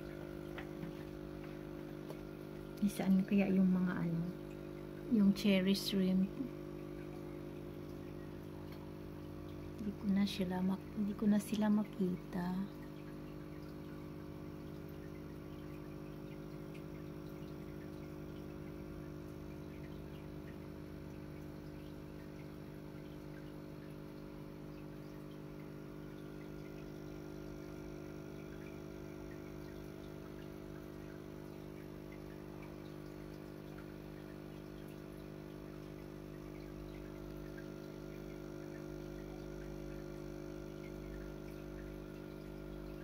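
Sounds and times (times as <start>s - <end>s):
aquarium filter humming: 0.0s - 43.0s
water trickling: 0.0s - 43.0s.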